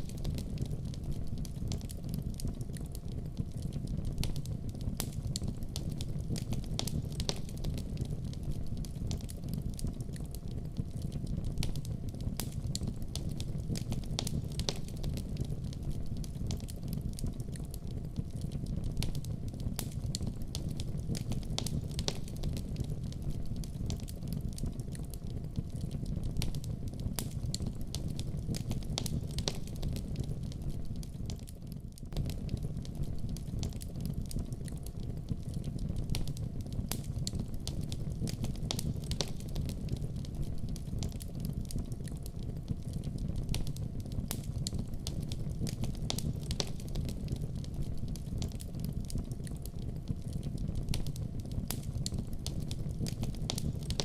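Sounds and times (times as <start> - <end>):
wood fire burning: 0.0 - 54.0.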